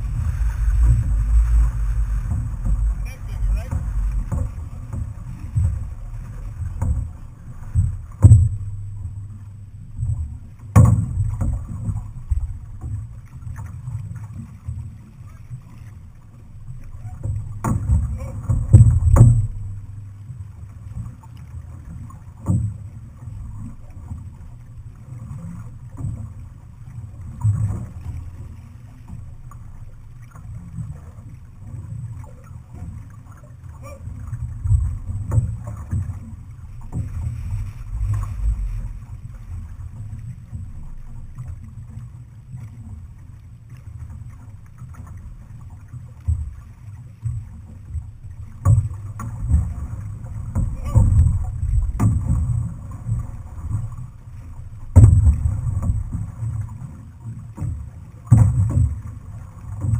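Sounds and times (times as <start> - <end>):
water washing along hull: 0.0 - 59.9
wind rumble on microphone: 0.0 - 59.9.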